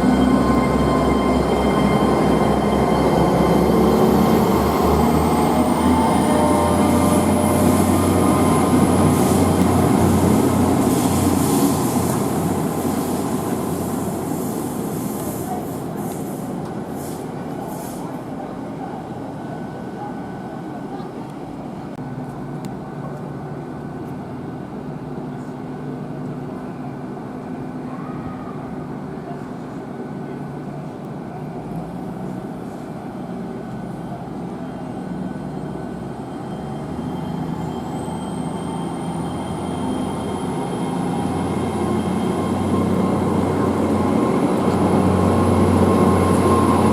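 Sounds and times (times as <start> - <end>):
train passing with high whine: 0.0 - 46.9.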